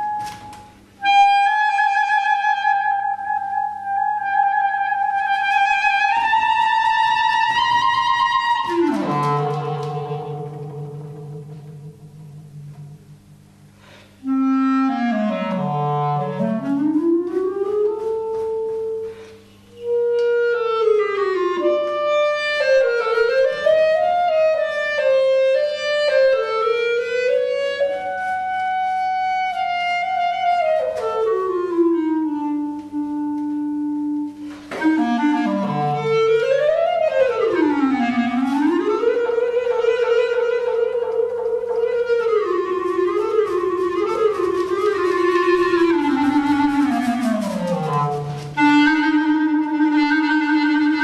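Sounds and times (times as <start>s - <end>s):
solo clarinet improvising: 0.0s - 51.0s.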